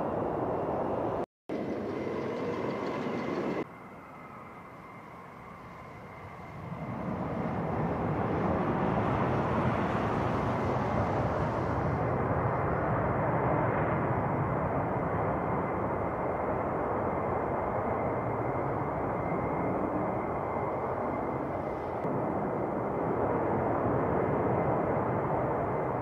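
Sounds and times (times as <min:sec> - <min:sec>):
fighter jet taking off: 0:00.1 - 0:26.0.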